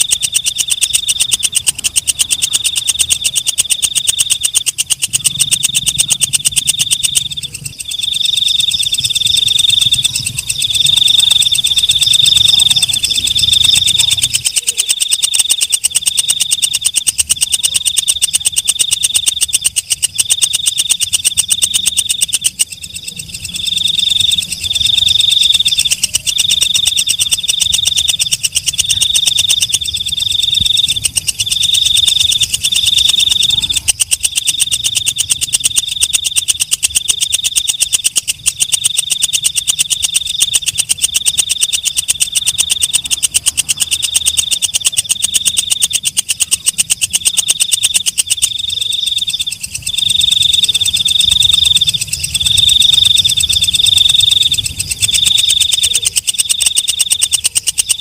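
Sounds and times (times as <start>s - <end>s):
katydid shrill pulsed chirping: 0.0s - 58.0s.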